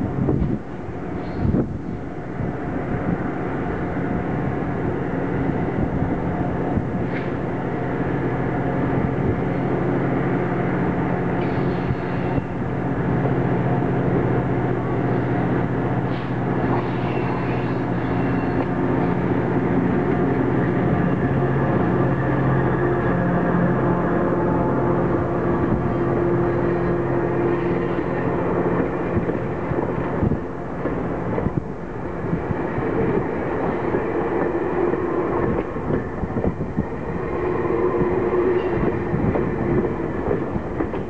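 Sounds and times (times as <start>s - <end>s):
diesel locomotive engine droning: 0.0s - 41.0s.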